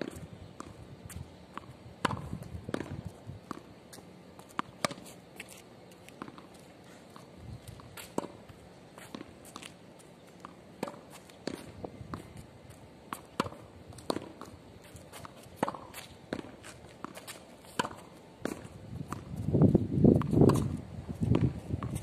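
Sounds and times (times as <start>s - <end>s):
footsteps and shoe scuffs on court: 0.0s - 22.0s.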